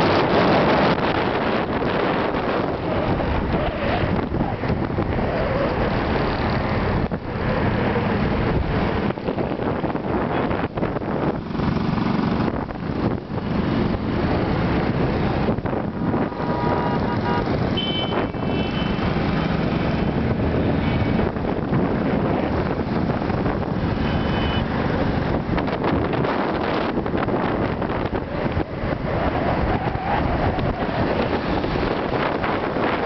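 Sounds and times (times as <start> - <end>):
road traffic noise: 0.0 - 33.0
wind buffeting microphone: 0.0 - 33.0.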